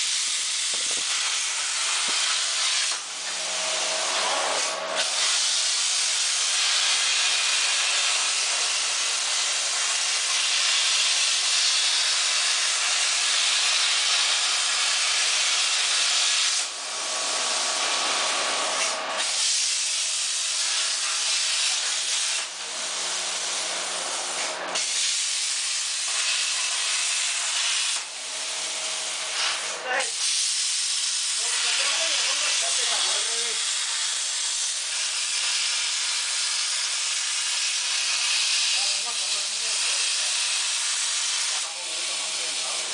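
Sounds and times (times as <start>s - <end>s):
plasma torch cutting metal: 0.0s - 42.9s.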